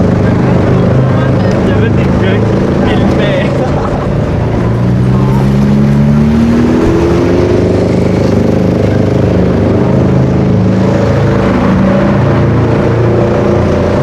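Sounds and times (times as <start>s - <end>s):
sports car engine revving: 0.0s - 14.0s.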